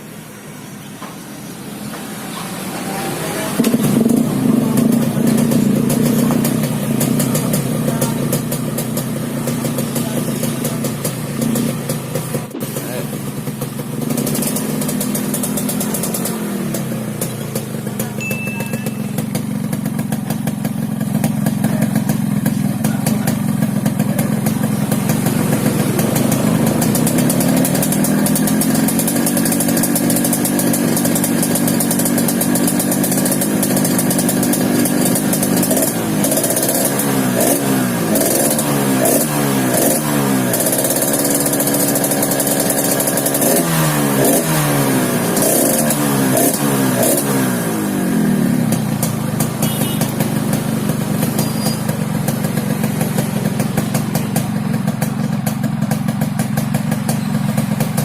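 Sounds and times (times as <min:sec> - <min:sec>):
two-stroke motorcycle engine revving: 0:01.9 - 0:58.0.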